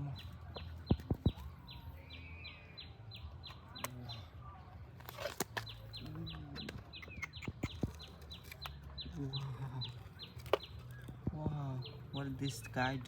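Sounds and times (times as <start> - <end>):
birds calling: 0.0 - 4.4, 5.1 - 13.0.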